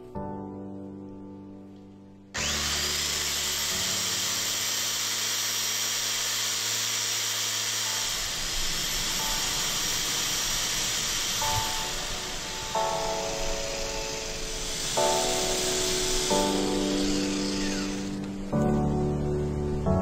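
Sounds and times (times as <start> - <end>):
padlock hissing on buffing pad: 2.4 - 18.4
electric polisher whining: 2.4 - 18.6.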